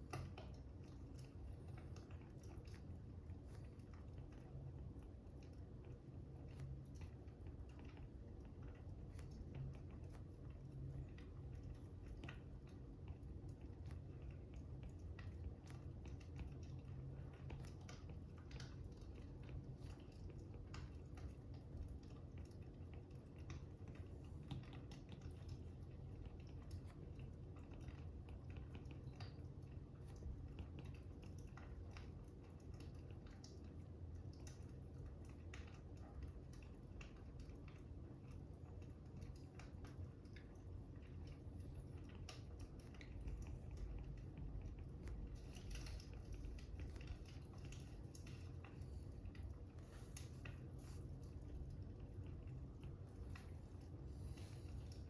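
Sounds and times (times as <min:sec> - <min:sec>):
low steady rumble: 0:00.0 - 0:55.0.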